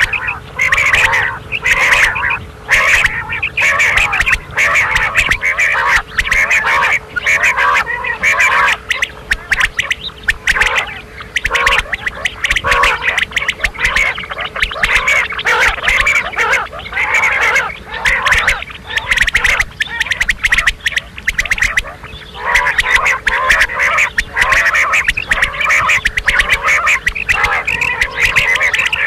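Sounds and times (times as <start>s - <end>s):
faint steady hum: 0.0s - 29.0s
quail calling: 0.0s - 29.0s.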